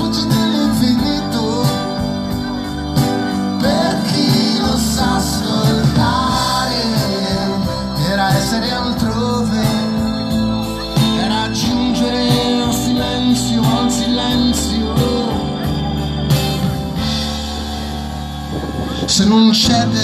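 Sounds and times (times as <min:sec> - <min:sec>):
man singing: 0:00.0 - 0:17.4, 0:18.7 - 0:20.0
keyboards: 0:00.0 - 0:20.0
live pop band playing: 0:00.0 - 0:20.0.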